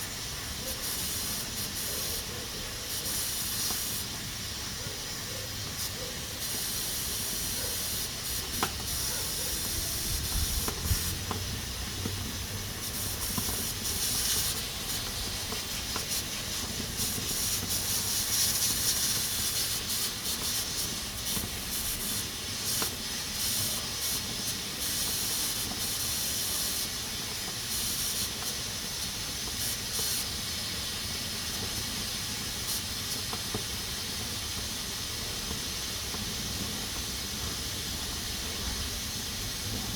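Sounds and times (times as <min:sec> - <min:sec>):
pressure cooker steam hissing: 0:00.0 - 0:39.9.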